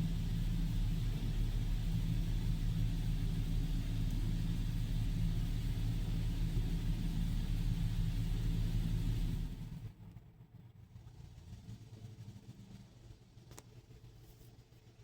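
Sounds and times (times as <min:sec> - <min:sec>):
car wash rumble and hum: 0:00.0 - 0:15.0.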